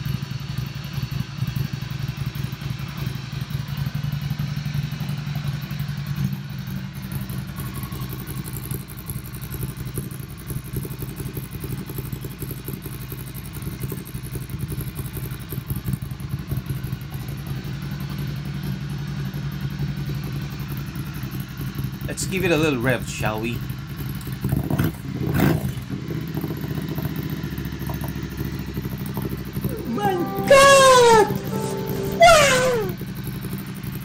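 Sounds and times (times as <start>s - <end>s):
motorcycle engine idling: 0.0s - 22.1s, 23.1s - 24.6s, 25.9s - 29.7s.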